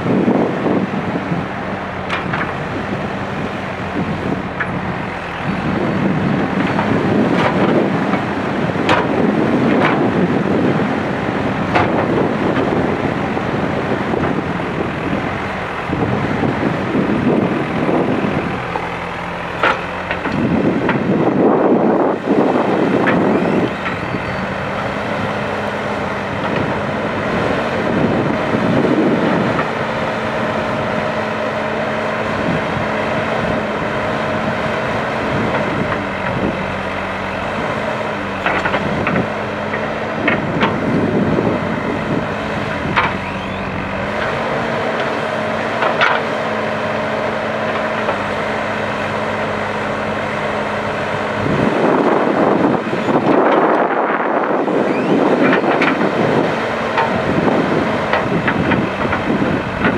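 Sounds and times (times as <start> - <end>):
diesel engine working: 0.0 - 59.9.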